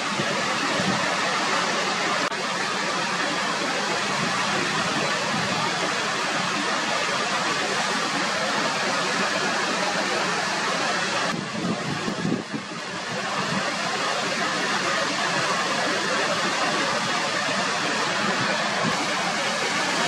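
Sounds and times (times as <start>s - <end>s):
water rushing down rock: 0.0s - 20.0s.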